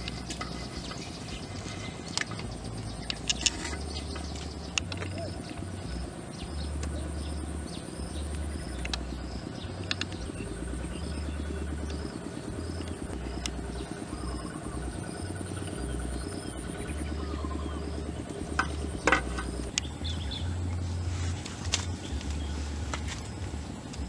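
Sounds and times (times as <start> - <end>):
high insect whine: 0.0 - 24.0
low gusty rumble: 0.0 - 24.0.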